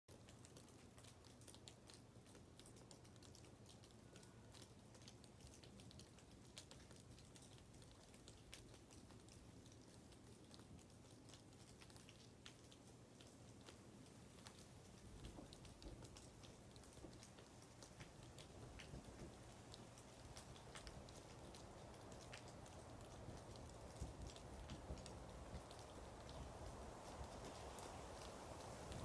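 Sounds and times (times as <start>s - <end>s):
irregular ticking and pattering: 0.1s - 29.0s.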